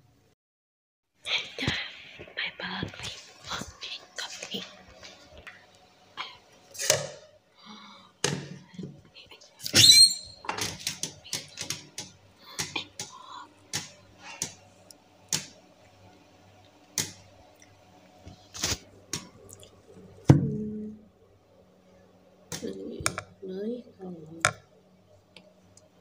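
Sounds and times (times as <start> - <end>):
low steady hum: 1.2 - 26.0.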